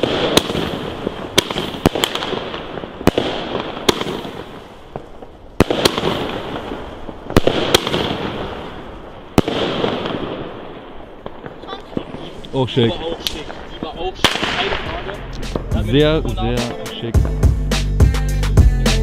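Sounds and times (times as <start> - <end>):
firework hiss: 0.0 - 17.0
firework bangs: 0.0 - 17.5.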